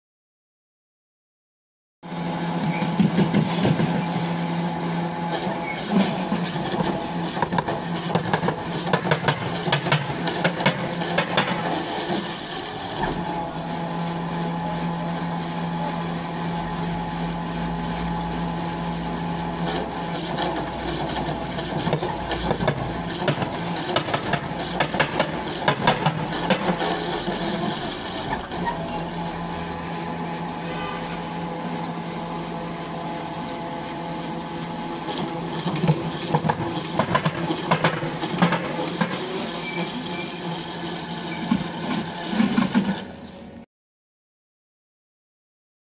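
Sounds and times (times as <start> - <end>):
winch motor humming: 2.1 - 43.3.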